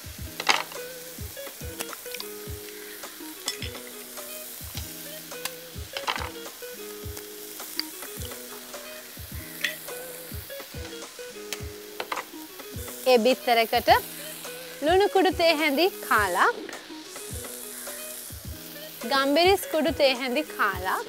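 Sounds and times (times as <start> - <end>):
background music with beat: 0.0 - 21.0
vegetables sizzling in oil: 0.0 - 21.0.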